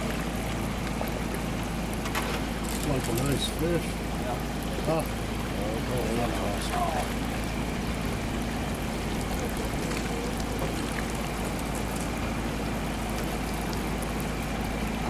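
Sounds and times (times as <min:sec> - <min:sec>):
outboard motor humming: 0:00.0 - 0:15.0
water wash: 0:00.0 - 0:15.0.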